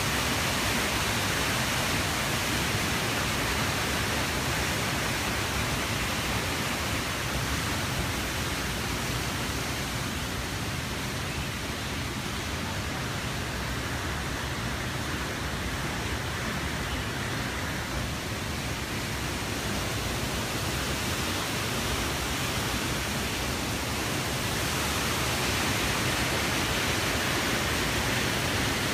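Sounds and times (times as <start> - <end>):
rushing creek water: 0.0 - 28.9.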